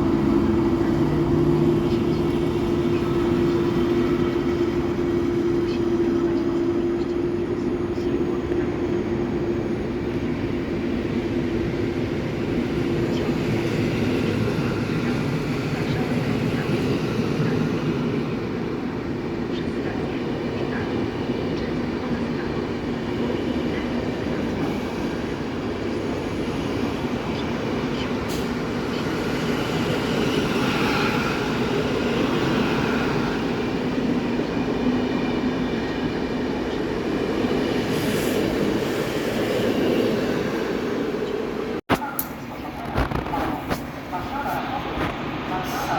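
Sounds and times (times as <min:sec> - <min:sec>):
train rumbling on tracks: 0:00.0 - 0:45.9.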